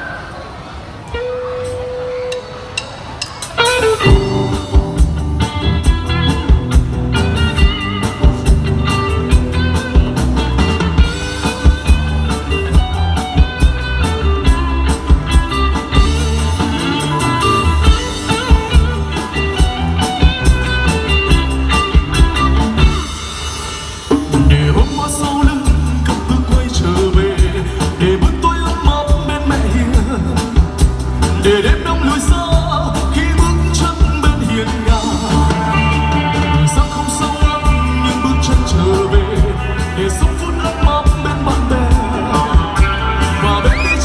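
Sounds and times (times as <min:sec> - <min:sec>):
live rock band playing: 0:00.0 - 0:44.0
steady drum beat: 0:02.8 - 0:44.0
bass line: 0:03.6 - 0:44.0.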